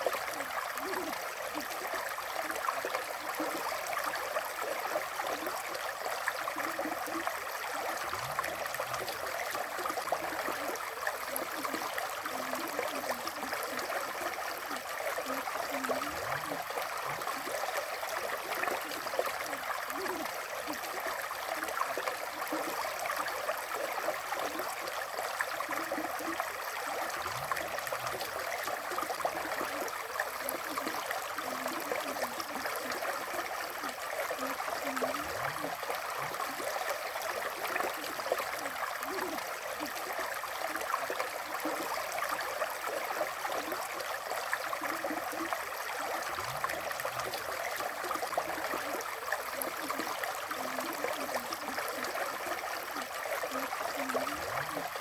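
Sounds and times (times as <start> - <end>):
river water flowing over stones: 0.0 - 55.0.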